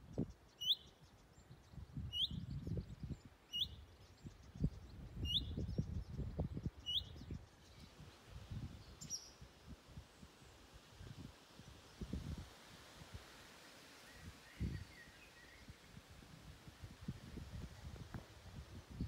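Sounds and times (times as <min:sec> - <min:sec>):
songbird chirping: 0:00.0 - 0:16.2
wind on microphone: 0:01.0 - 0:19.0.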